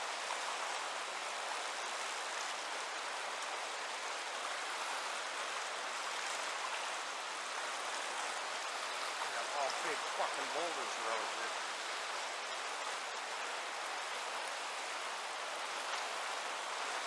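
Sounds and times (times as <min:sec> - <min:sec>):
rushing river rapids: 0:00.0 - 0:17.0.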